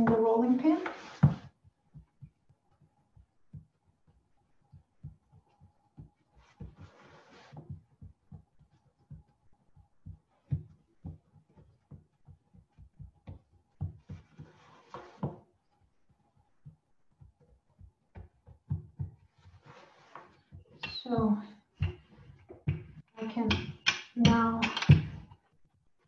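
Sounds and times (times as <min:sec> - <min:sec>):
dull thumps of pressing dough: 0:00.0 - 0:25.4.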